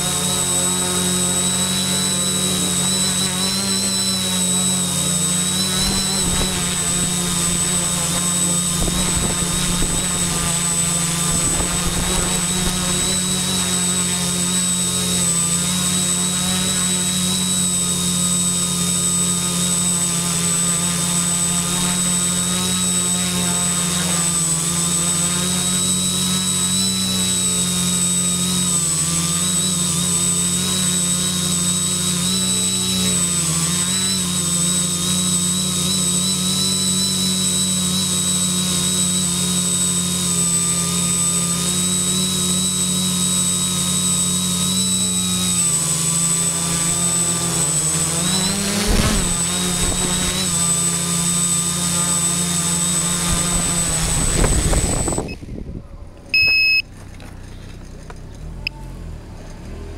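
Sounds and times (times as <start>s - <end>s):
quadcopter propellers whining: 0.0s - 59.9s.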